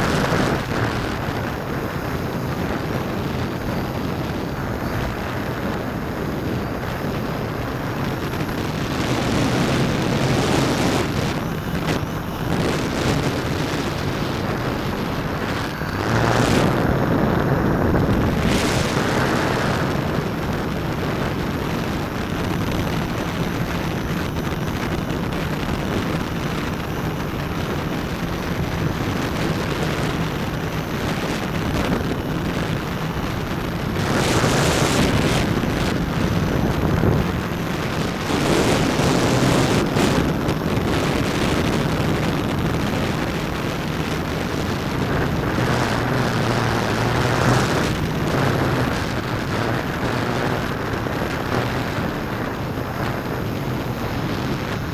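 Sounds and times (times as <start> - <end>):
drone motors humming: 0.0 - 54.9
wind buffeting microphone: 0.0 - 54.9.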